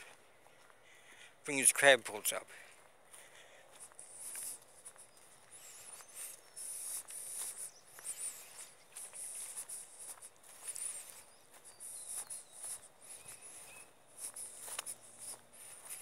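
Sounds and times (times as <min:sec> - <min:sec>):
footsteps on outdoor path: 0:00.0 - 0:16.0
small birds chirping: 0:00.0 - 0:16.0.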